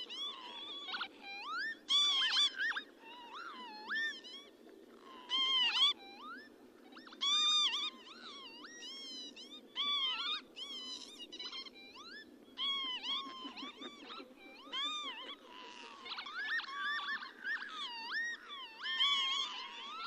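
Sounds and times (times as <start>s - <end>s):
lapwing calling: 0.0s - 20.0s
low background hiss: 0.0s - 20.0s.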